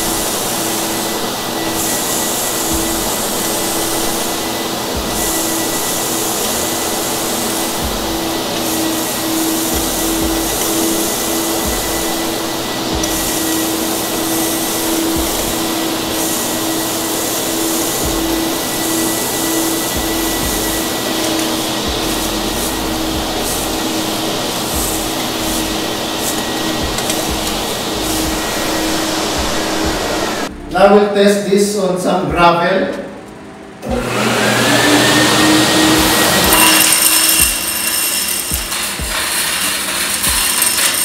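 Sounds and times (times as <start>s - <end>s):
faint high whine: 0.0s - 41.0s
industrial vacuum humming: 0.0s - 41.0s.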